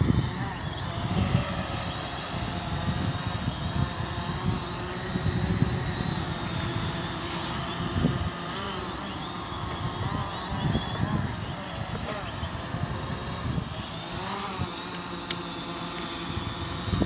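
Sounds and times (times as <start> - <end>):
wind buffeting microphone: 0.0 - 14.8, 16.2 - 17.0
drone propellers whining: 0.0 - 17.0.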